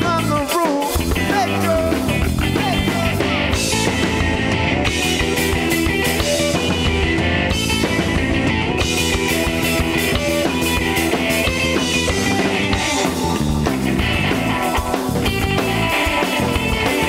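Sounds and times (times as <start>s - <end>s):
instrumental rock music: 0.0s - 17.0s.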